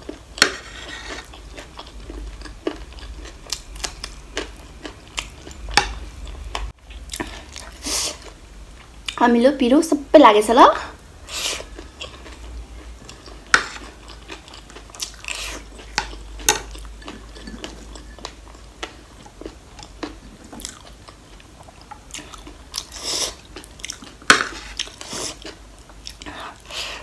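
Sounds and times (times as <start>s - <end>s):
chewing and crunching noodles: 0.0s - 9.2s, 11.3s - 27.0s.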